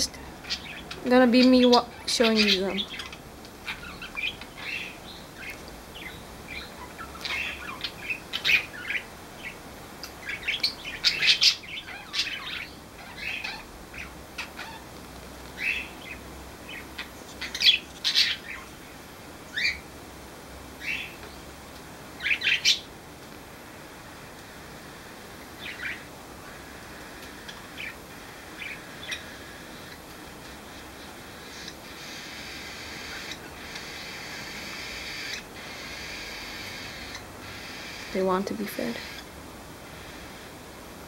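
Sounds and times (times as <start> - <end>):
parakeets chirping: 0.0 - 14.9, 15.6 - 18.8, 19.5 - 19.9, 20.8 - 21.4, 22.2 - 22.9, 24.0 - 40.6.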